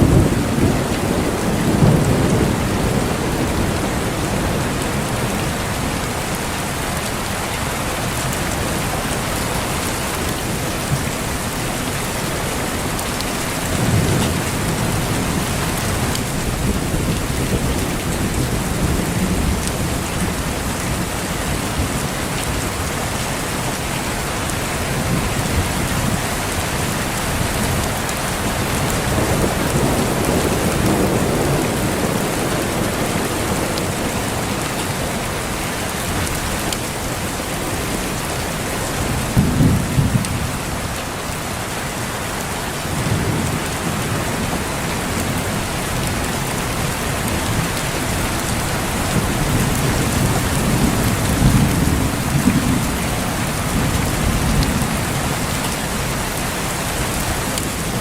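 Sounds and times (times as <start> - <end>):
thunder rumbling: 0.0 - 7.1, 12.3 - 22.8, 23.7 - 41.2, 42.7 - 58.0
heavy rain pouring: 0.0 - 58.0.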